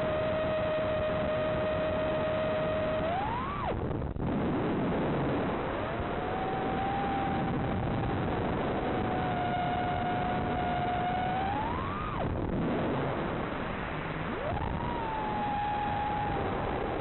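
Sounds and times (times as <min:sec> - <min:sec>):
drone motor whine: 0:00.0 - 0:17.0.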